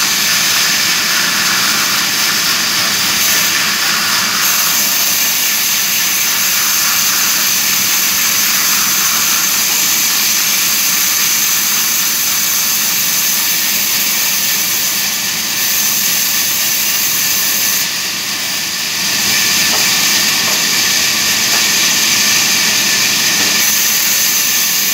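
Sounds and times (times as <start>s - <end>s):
band saw cutting log: 0.0s - 24.9s.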